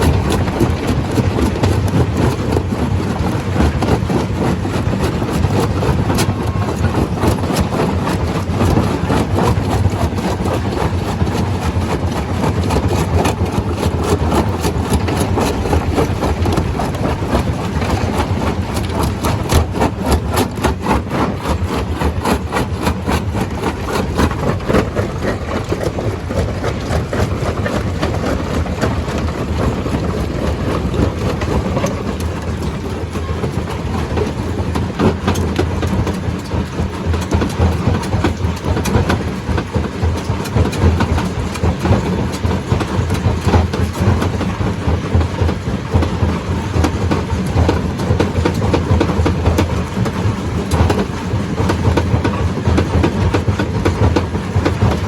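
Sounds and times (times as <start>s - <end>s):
loud machine drone: 0.0s - 55.0s.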